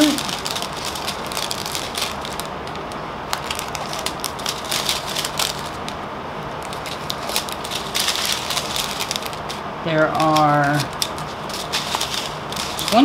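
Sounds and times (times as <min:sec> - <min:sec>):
scissors cutting plastic: 0:00.0 - 0:06.0, 0:06.6 - 0:13.0
plastic crinkling: 0:00.0 - 0:13.0.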